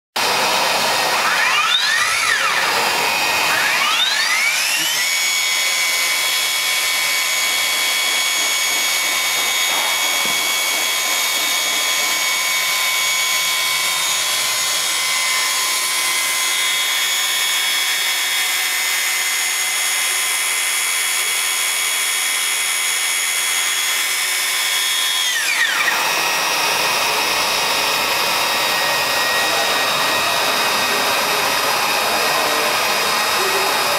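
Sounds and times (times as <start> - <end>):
hot-air blower rushing: 0.2 - 33.9
motor whine: 0.2 - 33.9.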